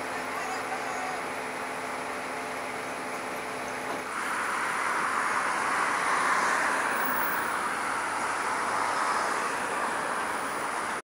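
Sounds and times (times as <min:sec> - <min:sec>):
passing traffic road noise: 0:00.0 - 0:11.0.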